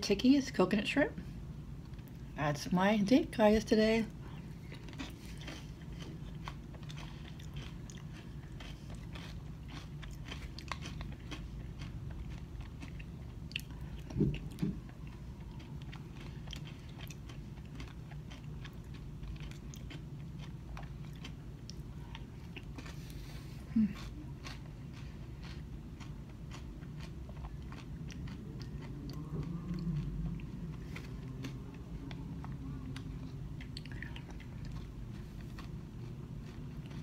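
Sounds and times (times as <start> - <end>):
low room hum: 0.0 - 37.0
person chewing: 4.1 - 37.0
soft crunching: 4.2 - 37.0.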